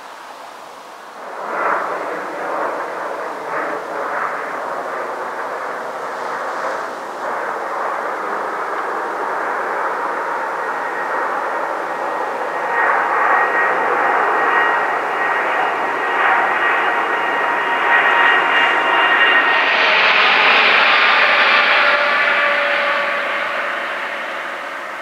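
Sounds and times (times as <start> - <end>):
jet engines rushing with fan whine: 0.0 - 25.0.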